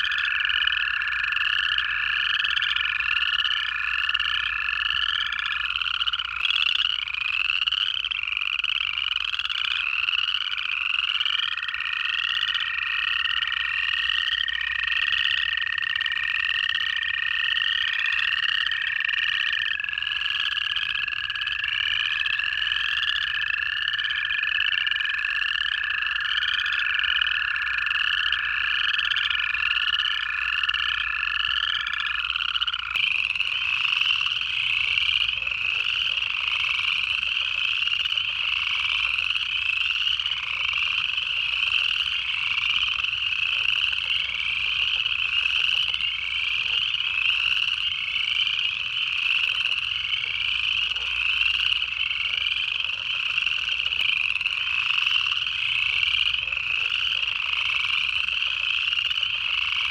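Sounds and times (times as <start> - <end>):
chorus of frogs trilling: 0.0 - 59.9
toads giving low trills: 0.0 - 59.9.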